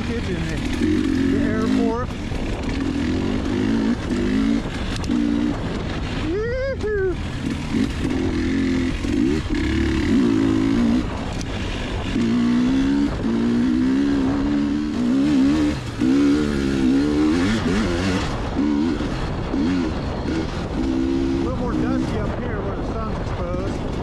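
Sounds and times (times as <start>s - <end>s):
two-stroke dirt bike engine revving: 0.0s - 24.0s
wind rumble on microphone: 0.0s - 24.0s.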